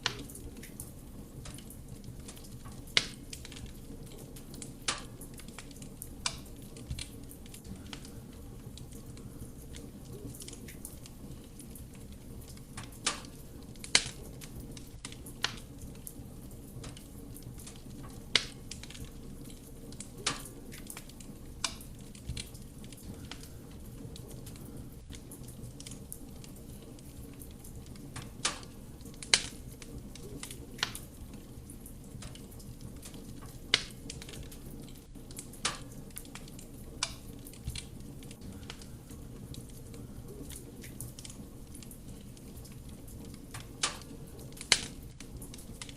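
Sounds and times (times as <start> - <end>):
burning wood crackling and popping: 0.0 - 45.9
low rumble of flame: 0.0 - 45.9.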